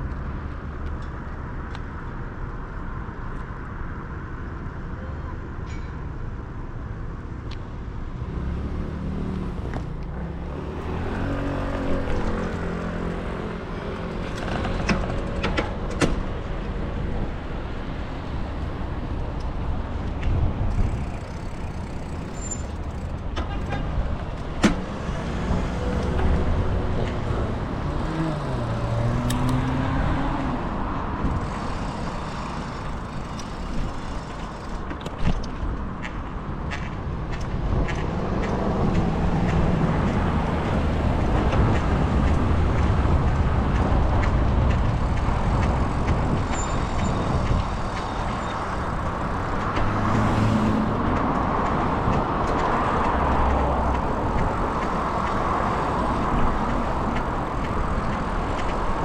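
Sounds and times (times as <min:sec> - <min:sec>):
road rumble: 0:00.0 - 0:59.0
cars passing: 0:07.7 - 0:59.0.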